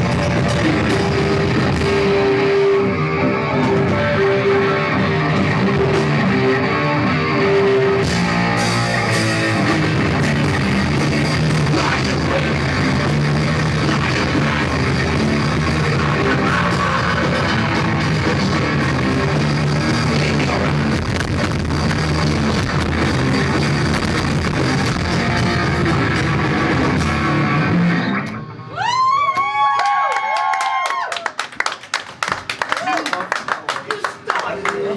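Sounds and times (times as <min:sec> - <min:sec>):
rock band playing live: 0:00.0 - 0:28.6.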